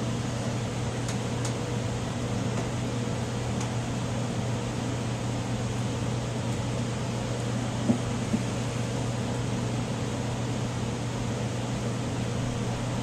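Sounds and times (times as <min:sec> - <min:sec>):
fan hissing air: 0:00.0 - 0:13.0
low electrical hum: 0:00.0 - 0:13.0.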